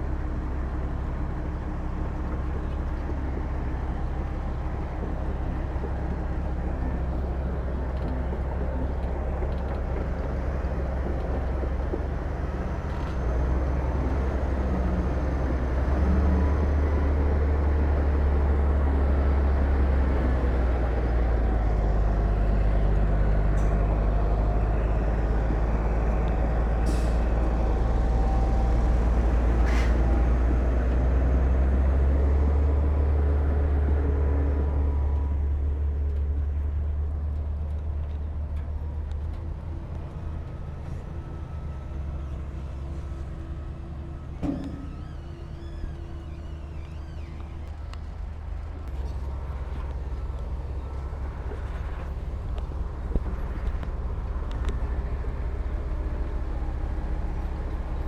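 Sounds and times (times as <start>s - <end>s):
diesel earthmoving machinery rumbling: 0.0s - 58.0s.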